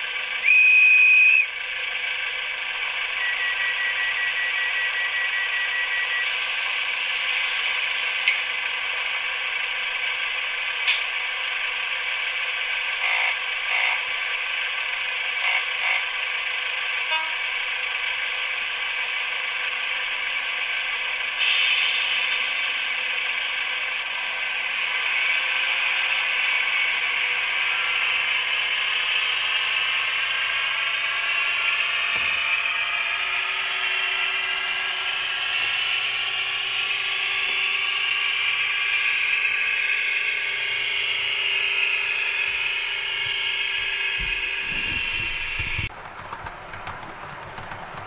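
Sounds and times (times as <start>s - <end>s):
model train motor whirring: 2.6s - 48.0s.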